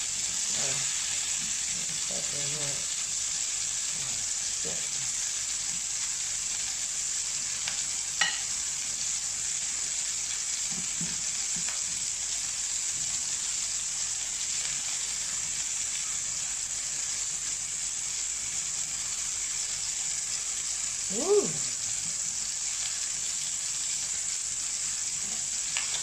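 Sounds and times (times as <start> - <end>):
chicken sizzling in frying pan: 0.0 - 26.0.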